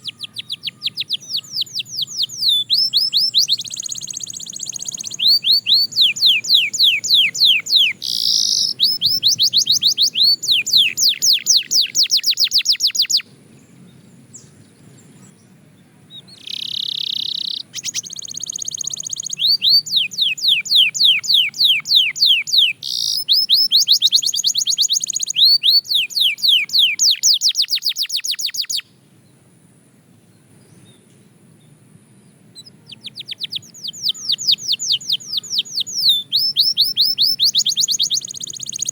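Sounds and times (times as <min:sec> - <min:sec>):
canary singing trills: 0:00.0 - 0:29.0, 0:32.2 - 0:38.9.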